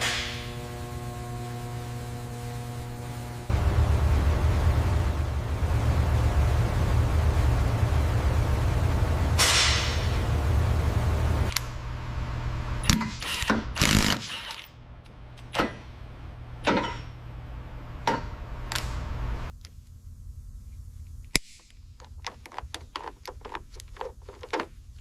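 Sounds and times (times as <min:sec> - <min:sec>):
low steady hum: 0:00.0 - 0:14.1, 0:14.7 - 0:25.0.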